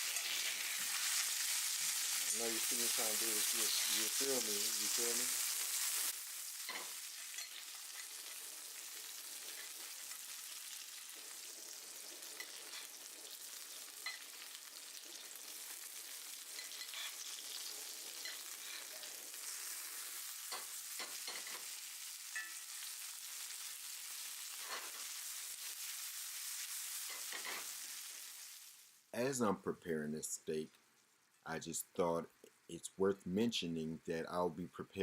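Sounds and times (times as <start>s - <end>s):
steak sizzling in a skillet: 0.0s - 29.0s.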